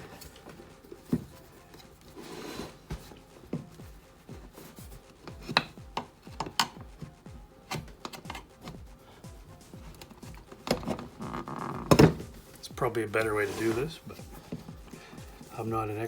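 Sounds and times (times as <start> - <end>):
rubber rubbing and scraping: 0.0 - 16.0.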